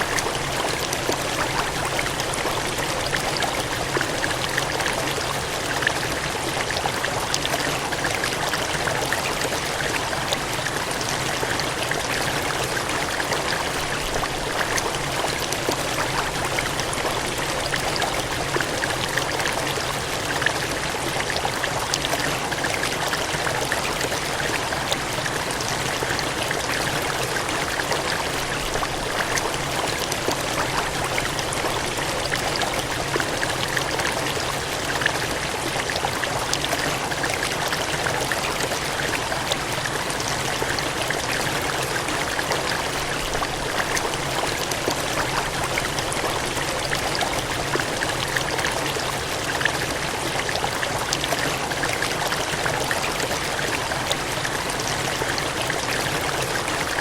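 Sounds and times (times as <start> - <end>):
water gushing and splashing: 0.0 - 57.0.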